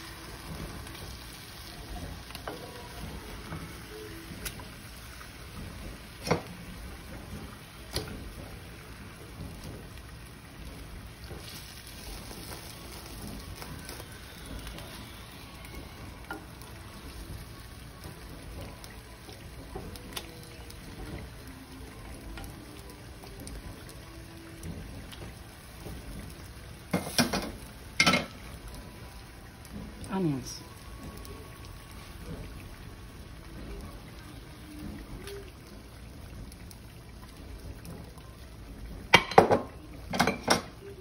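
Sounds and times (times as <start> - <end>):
meat sizzling in a pot: 0.0 - 41.0.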